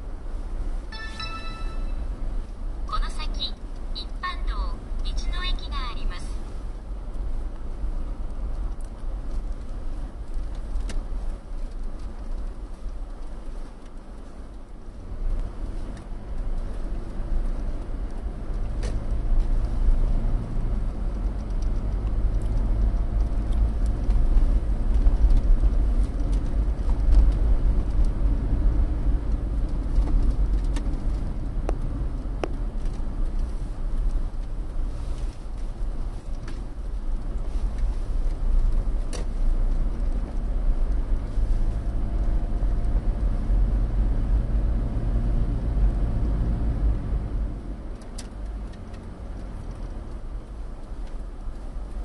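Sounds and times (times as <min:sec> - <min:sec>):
car engine rumble: 0:00.0 - 0:52.0
tyres on snowy road: 0:00.0 - 0:52.0.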